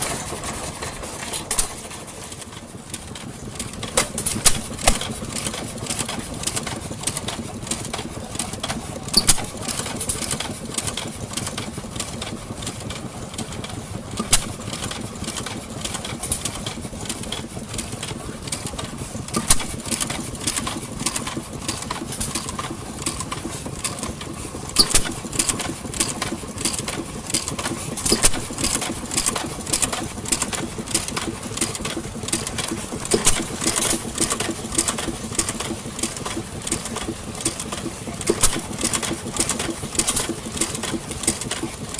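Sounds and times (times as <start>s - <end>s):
engine clicks and knocks: 0.0s - 41.9s.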